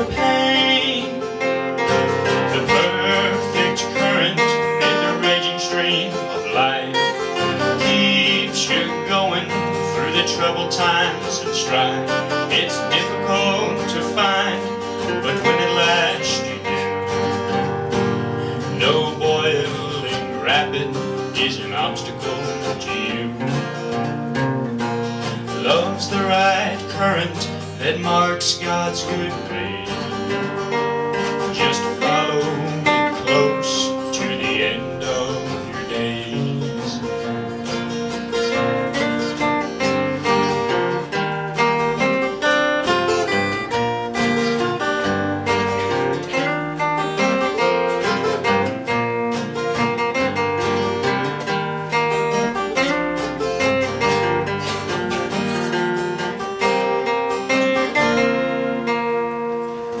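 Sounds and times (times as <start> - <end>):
acoustic guitars playing: 0.0 - 60.0.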